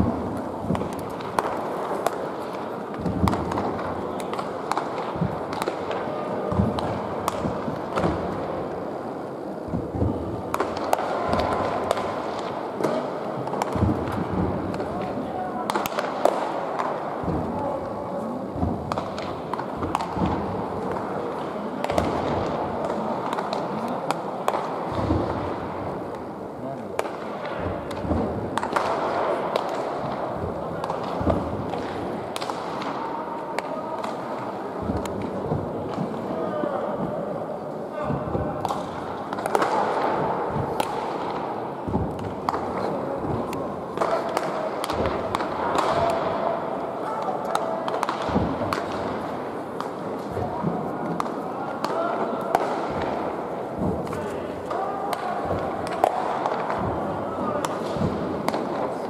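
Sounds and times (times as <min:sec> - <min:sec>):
baseballs smacking into gloves: 0:00.0 - 0:08.7, 0:09.6 - 0:17.9, 0:18.5 - 0:26.3, 0:26.9 - 0:33.0, 0:33.6 - 0:36.2, 0:38.0 - 0:59.0
background chatter: 0:00.0 - 0:59.0
murmur of voices: 0:00.0 - 0:59.0.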